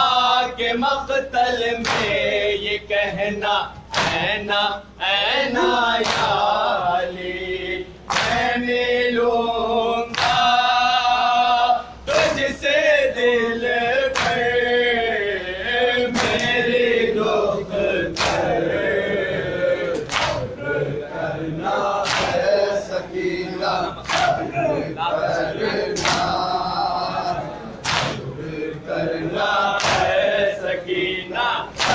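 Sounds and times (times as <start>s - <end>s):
men chanting a lament: 0.0s - 31.9s.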